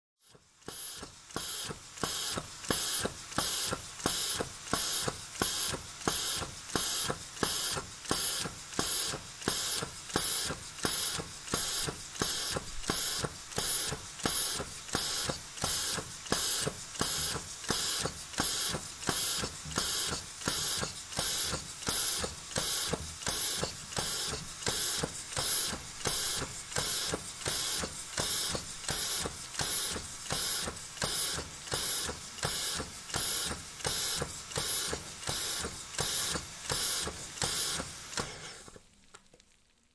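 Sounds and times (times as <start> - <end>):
steam air pump hissing puffs: 0.2 - 38.9.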